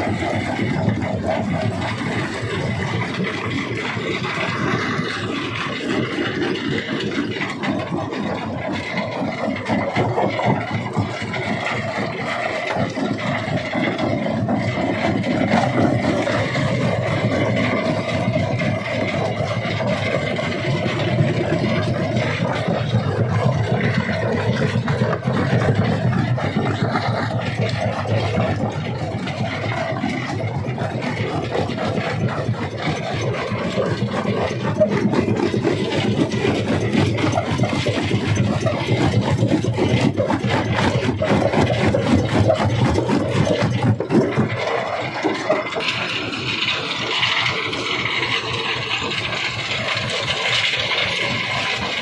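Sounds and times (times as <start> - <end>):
stone crusher machinery running: 0.0 - 52.0.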